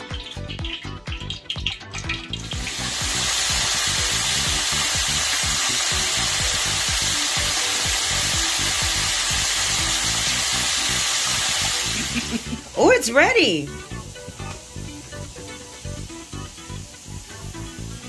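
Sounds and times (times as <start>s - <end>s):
chicken deep-frying in oil: 0.0s - 18.0s
faint background music: 0.0s - 18.0s.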